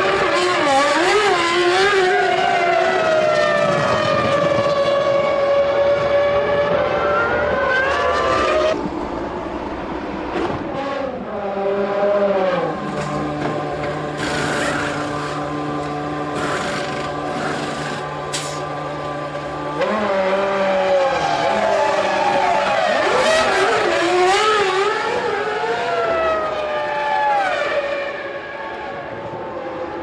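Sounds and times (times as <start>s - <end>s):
engine lower drone: 0.0s - 30.0s
racing car engines at high revs: 0.0s - 30.0s.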